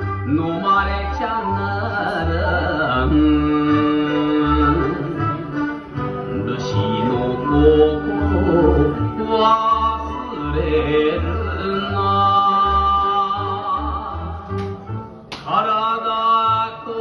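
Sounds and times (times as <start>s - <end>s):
song with held melody: 0.0s - 17.0s.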